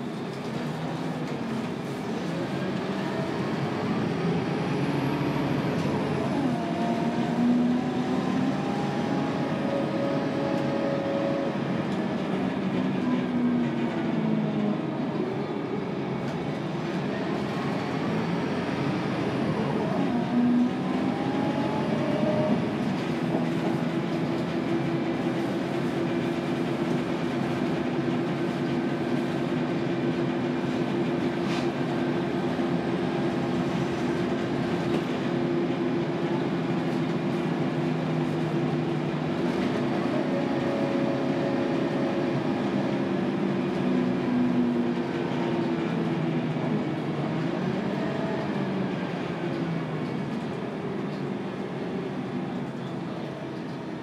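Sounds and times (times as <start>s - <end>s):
bus engine drone with whine: 0.0s - 54.0s.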